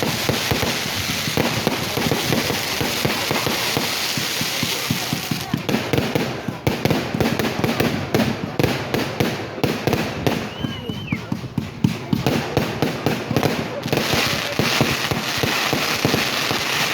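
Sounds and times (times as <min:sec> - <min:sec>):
fireworks crackling bangs: 0:00.0 - 0:16.9
fireworks hiss: 0:00.0 - 0:16.9.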